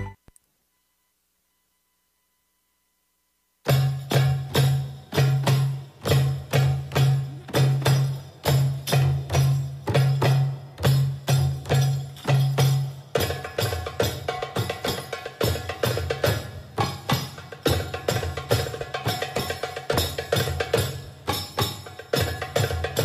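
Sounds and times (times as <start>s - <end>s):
fast percussion pattern: 3.6s - 23.0s.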